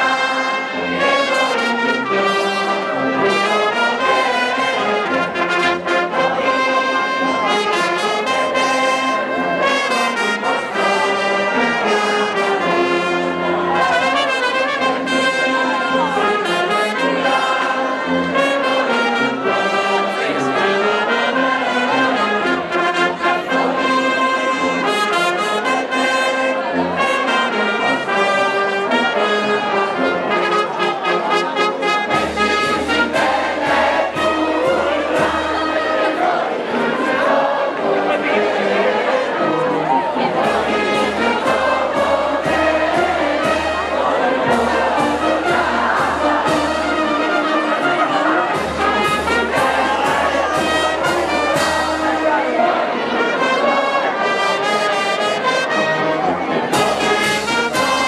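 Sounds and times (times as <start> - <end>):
brass band playing: 0.0 - 58.0
crowd noise: 0.0 - 58.0.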